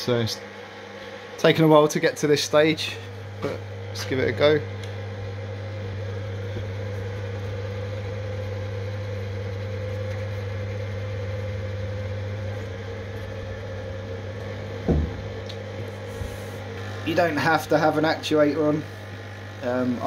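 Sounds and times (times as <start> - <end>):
electric actuator motor humming: 0.0 - 20.0.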